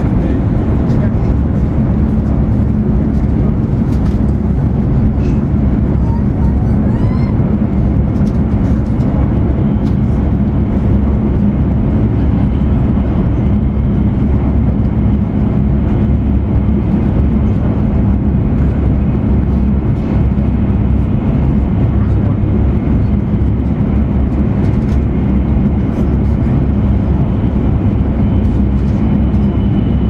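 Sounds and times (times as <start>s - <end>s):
constant hum: 0.0s - 30.0s
train interior rumble: 0.0s - 30.0s.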